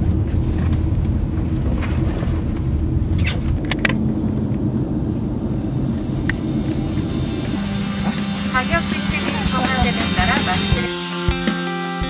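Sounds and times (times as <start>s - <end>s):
car engine and tyre rumble: 0.0s - 10.8s.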